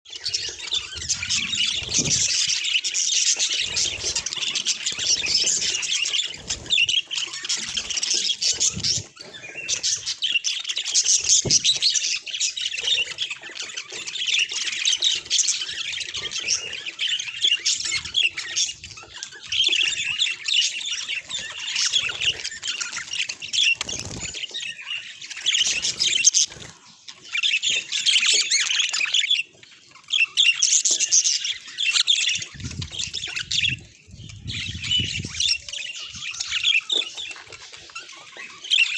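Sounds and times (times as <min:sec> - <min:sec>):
budgerigars chattering: 0:00.1 - 0:38.9.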